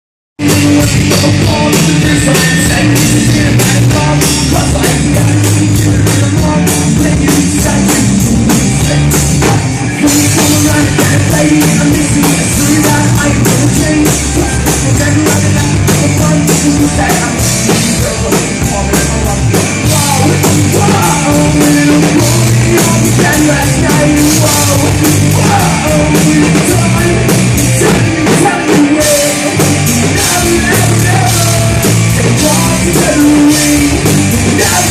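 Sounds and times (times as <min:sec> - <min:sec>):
person singing: 0:00.4 - 0:34.9
rock band playing: 0:00.4 - 0:34.9.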